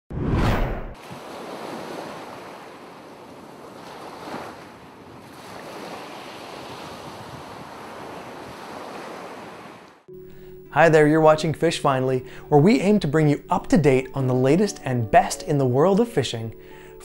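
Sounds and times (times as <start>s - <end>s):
ocean waves washing: 0.6s - 17.0s.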